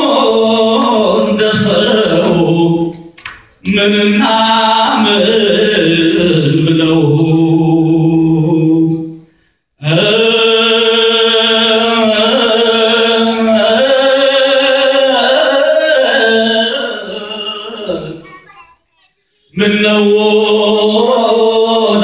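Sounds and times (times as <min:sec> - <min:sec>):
choir singing a hymn: 0:00.0 - 0:09.2, 0:09.8 - 0:18.3, 0:19.5 - 0:22.0.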